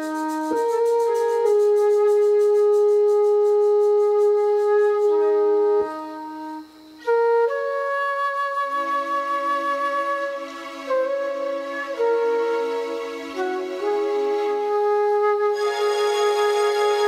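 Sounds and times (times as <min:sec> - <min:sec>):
flute holding sustained notes: 0:00.0 - 0:17.0.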